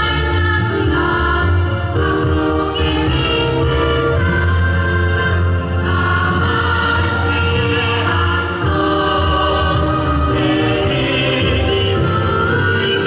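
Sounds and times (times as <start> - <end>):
choir singing sustained notes: 0.0 - 13.0
instrumental accompaniment with deep bass: 0.0 - 13.0.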